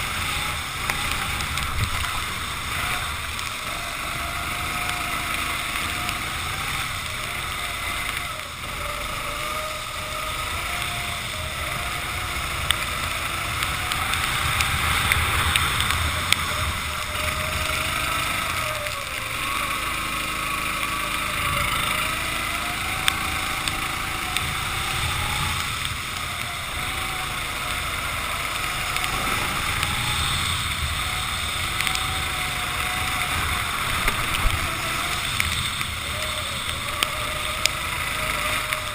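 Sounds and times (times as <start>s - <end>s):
racing kart engine: 0.0s - 38.9s
steady rushing noise: 0.0s - 38.9s.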